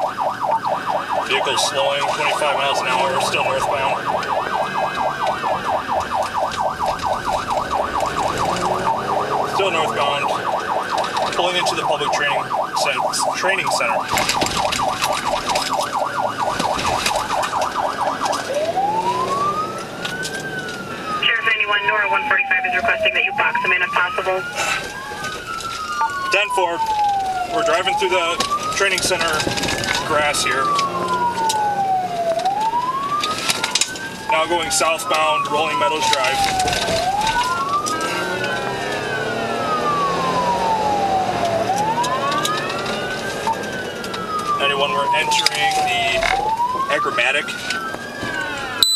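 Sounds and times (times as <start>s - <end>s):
engine and road noise: 0.0s - 48.9s
police siren yelp and wail: 0.0s - 48.9s.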